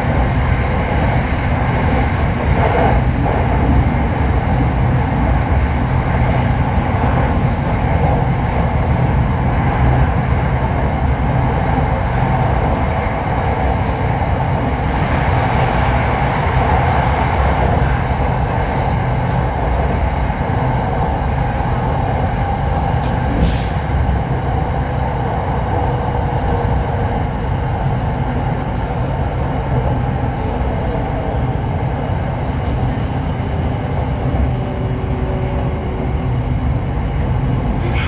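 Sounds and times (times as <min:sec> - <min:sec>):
train running rumble and hum: 0:00.0 - 0:38.0.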